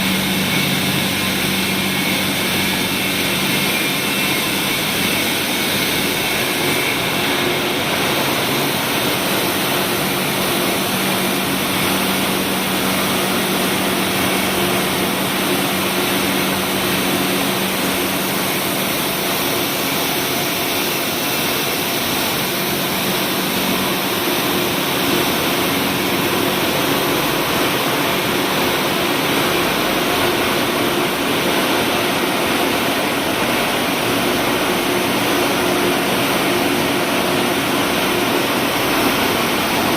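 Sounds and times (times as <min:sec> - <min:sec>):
factory machinery running: 0:00.0 - 0:39.9.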